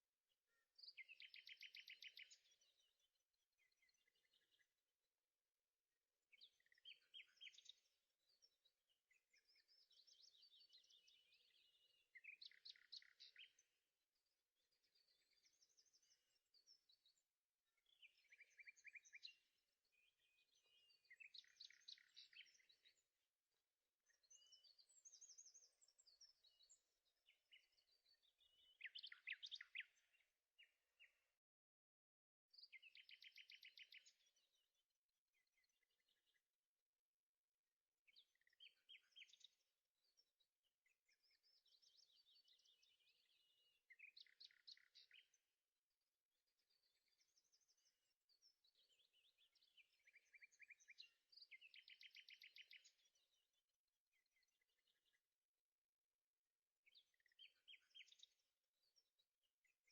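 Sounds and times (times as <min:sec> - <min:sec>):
faint bird song: 0:00.0 - 0:59.9.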